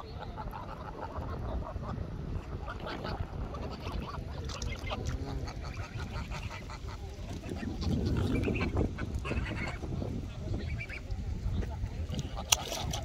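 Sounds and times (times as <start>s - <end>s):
ducks quacking: 0.0s - 13.0s
geese honking: 0.1s - 11.1s.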